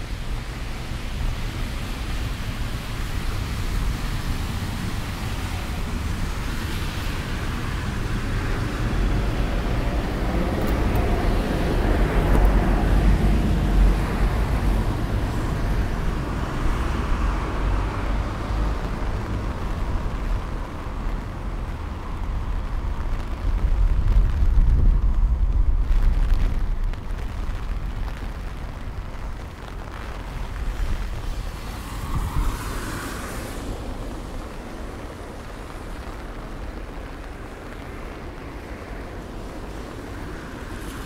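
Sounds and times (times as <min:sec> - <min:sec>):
van tyres hissing on wet road: 0:00.0 - 0:41.0
wind buffeting microphone: 0:00.6 - 0:41.0.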